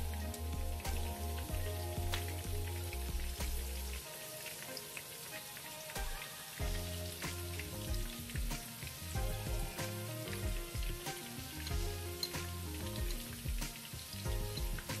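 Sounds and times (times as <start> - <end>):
background music with bass: 0.0 - 4.0, 5.9 - 15.0
oil sizzling and popping: 0.0 - 15.0.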